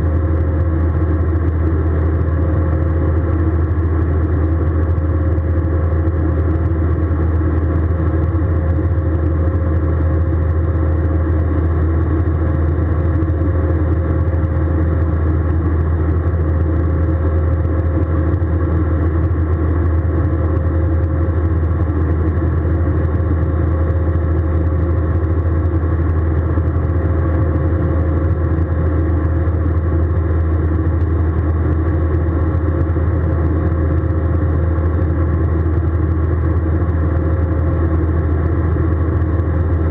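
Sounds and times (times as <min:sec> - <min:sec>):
faint steady whine: 0:00.0 - 0:39.9
jet cabin engine drone: 0:00.0 - 0:39.9.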